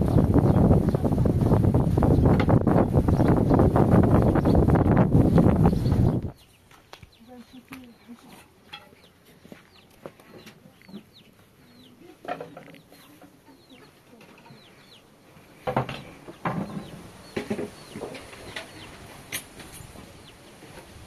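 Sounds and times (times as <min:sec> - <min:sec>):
chicks peeping: 0:00.0 - 0:20.9
chickens clucking: 0:00.0 - 0:21.0.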